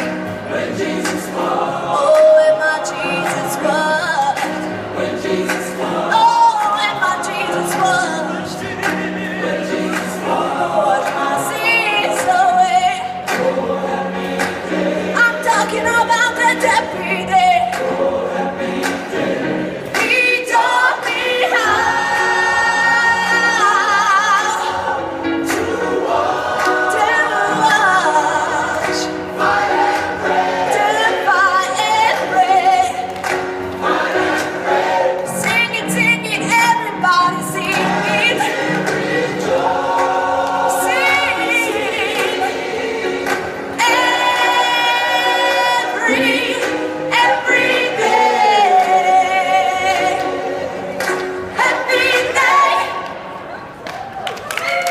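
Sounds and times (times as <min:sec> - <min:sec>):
choir singing: 0:00.0 - 0:53.7.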